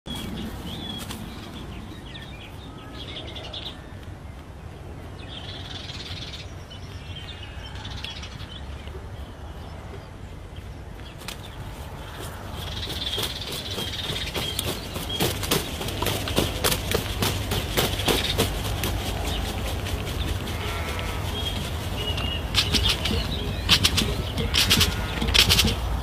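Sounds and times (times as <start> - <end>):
birds chirping and twittering: 0.1 - 26.0
steady low rumble: 0.1 - 26.0.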